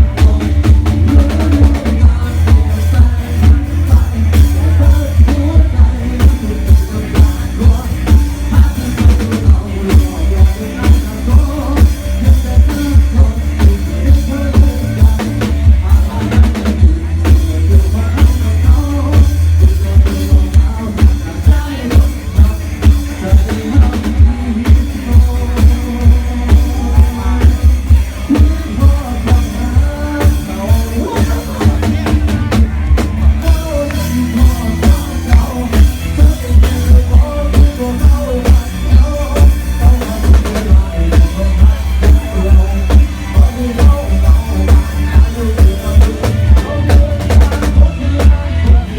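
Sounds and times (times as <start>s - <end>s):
loud bass-heavy dance music: 0.0s - 48.9s.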